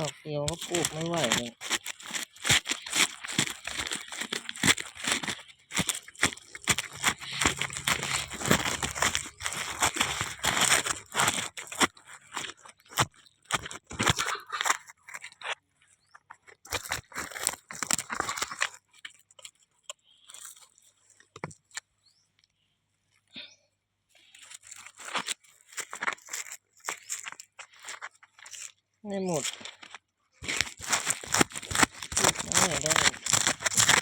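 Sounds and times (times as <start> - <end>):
dry plant matter crackling and rustling: 0.0 - 21.8, 24.2 - 34.0.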